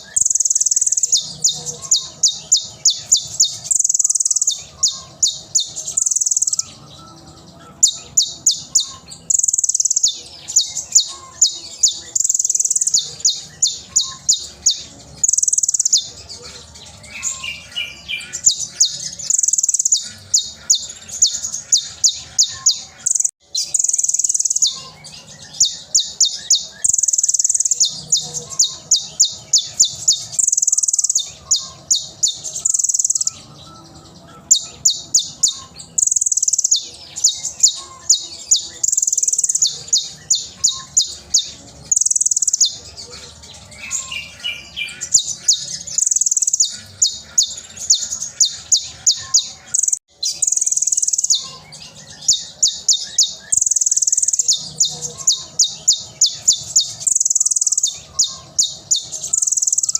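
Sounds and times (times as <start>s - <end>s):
sunbird singing: 0.0s - 59.9s.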